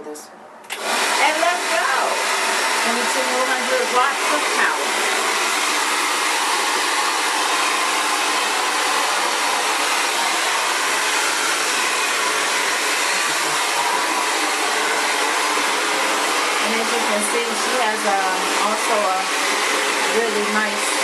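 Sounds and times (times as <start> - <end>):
hair dryer running: 0.7 - 21.0.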